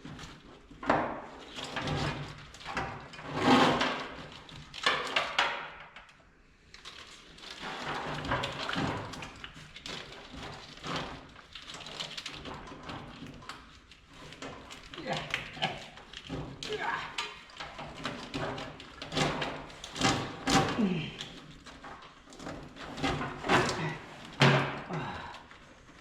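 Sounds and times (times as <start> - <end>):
wiring harness rustling and scraping: 0.0 - 5.4, 6.7 - 26.0.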